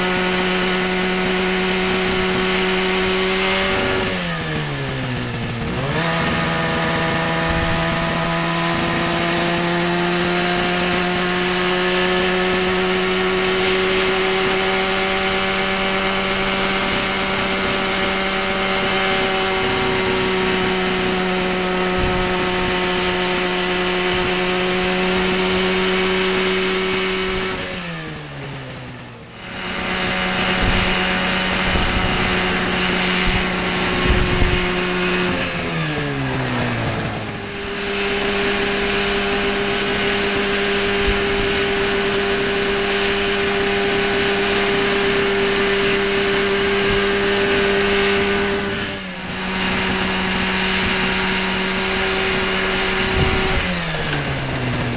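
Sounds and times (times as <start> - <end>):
helicopter engine and rotor: 0.0 - 54.9.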